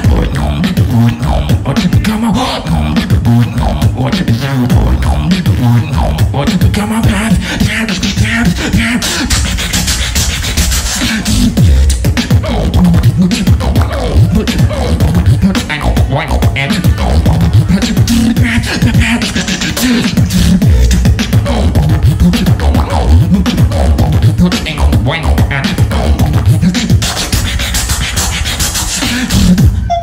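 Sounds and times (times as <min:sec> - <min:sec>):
person beatboxing into microphone: 0:00.0 - 0:30.0.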